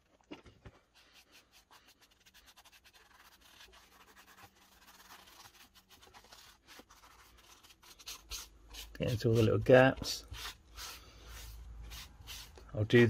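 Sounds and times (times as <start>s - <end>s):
rag rubbing on wood: 1.0s - 12.6s.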